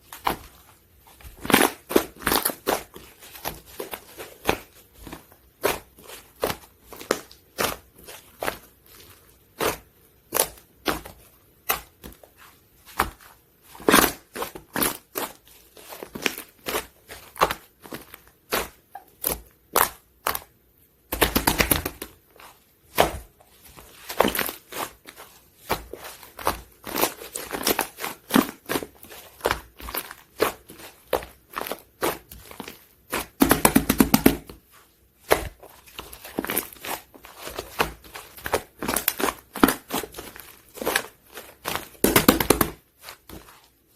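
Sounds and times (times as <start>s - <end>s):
slime squished by hand: 0.0s - 43.9s.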